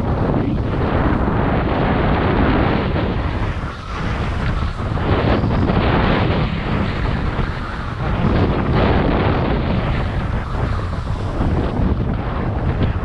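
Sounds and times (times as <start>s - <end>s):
wind buffeting microphone: 0.0s - 13.0s
skis sliding over snow: 0.1s - 13.0s.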